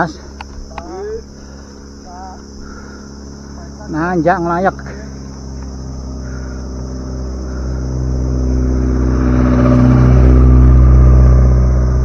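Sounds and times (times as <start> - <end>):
car engine hum passing: 0.0 - 12.0.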